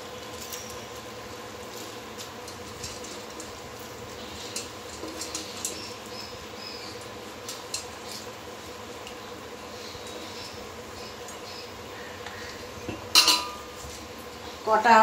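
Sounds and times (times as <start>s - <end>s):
rice grains ticking and scraping: 0.0s - 14.6s
boiling water bubbling: 0.0s - 15.0s.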